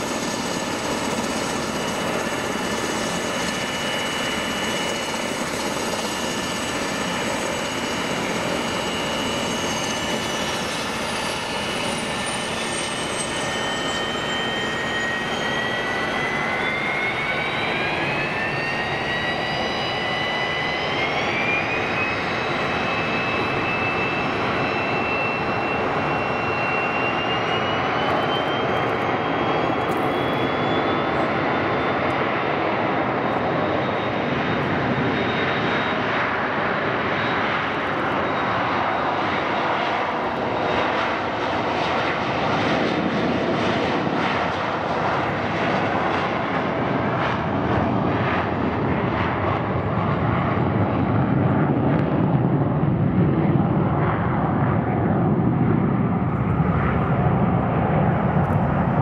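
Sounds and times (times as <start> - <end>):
high rising whine: 0.0 - 48.8
jet engines roaring: 0.0 - 59.0.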